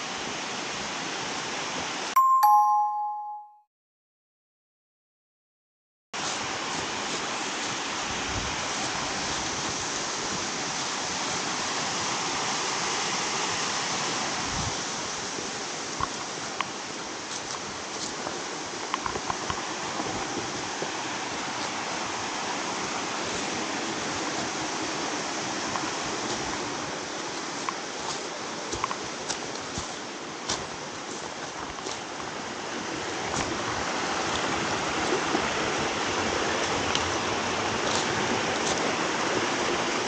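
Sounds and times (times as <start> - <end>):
waterfall and stream rushing: 0.0 - 3.2, 6.2 - 40.0.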